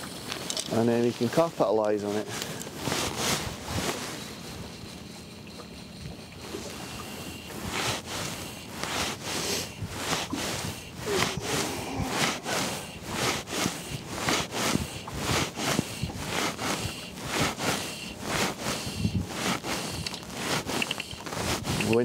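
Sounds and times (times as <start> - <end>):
fly line rasping swish: 2.7 - 22.0
wind on microphone: 2.7 - 22.0.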